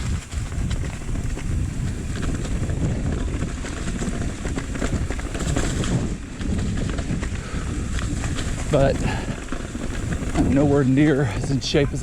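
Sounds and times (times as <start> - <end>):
bike rattling: 0.0 - 12.0
tyres crunching on dirt: 0.0 - 12.0
wind buffeting microphone: 0.0 - 12.0.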